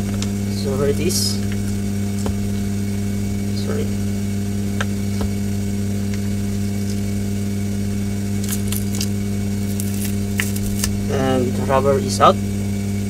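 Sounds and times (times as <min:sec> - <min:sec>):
hot air gun blower humming: 0:00.0 - 0:13.0.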